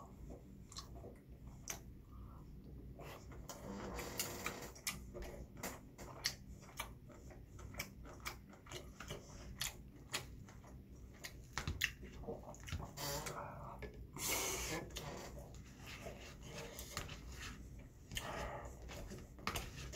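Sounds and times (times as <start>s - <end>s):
person chewing food: 0.2s - 3.6s, 4.7s - 19.9s.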